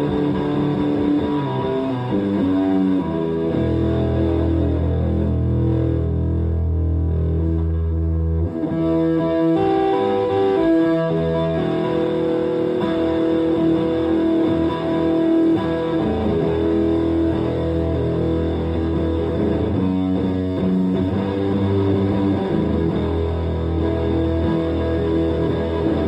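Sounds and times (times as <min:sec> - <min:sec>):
fuzz electric guitar: 0:00.0 - 0:26.0.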